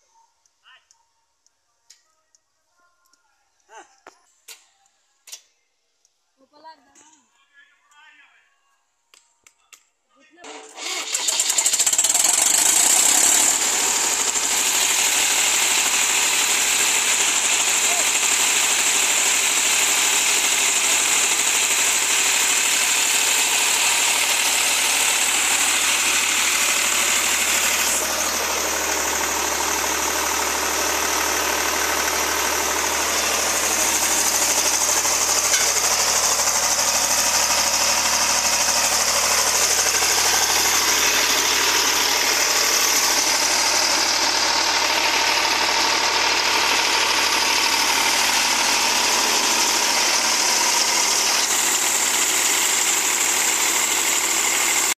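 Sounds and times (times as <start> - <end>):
diesel engine running: 10.5 - 54.9.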